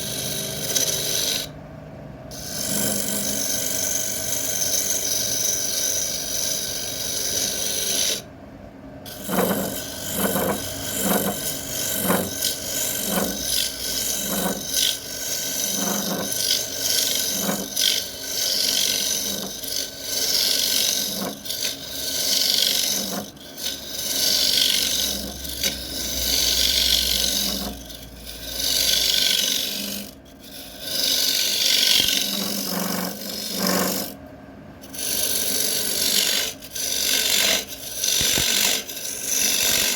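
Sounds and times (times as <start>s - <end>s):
lathe hum: 0.0s - 1.6s, 2.3s - 8.3s, 9.1s - 34.2s, 34.8s - 39.9s
turning tool scraping wood: 0.0s - 1.6s, 2.3s - 8.3s, 9.1s - 34.2s, 34.8s - 39.9s.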